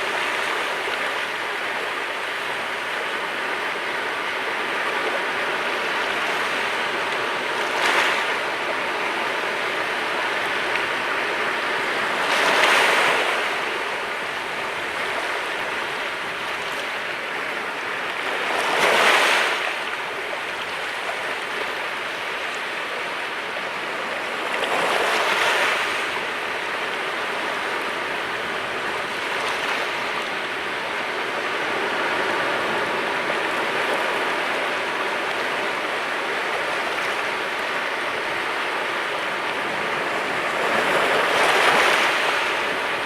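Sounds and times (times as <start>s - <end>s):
sea waves breaking: 0.0s - 43.0s.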